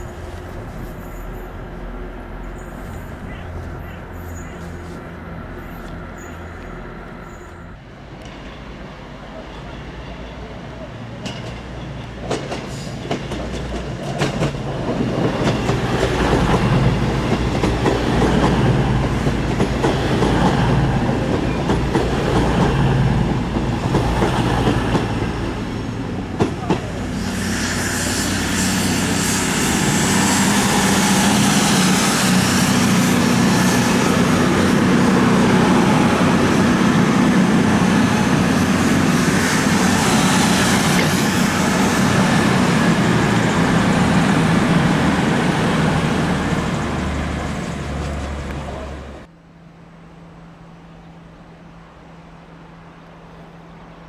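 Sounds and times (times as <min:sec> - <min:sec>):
train running on rails: 0:00.0 - 0:54.0.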